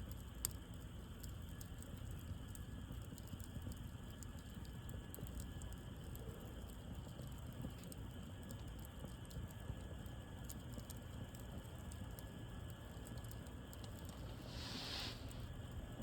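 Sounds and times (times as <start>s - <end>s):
bonfire crackling: 0.1s - 16.0s.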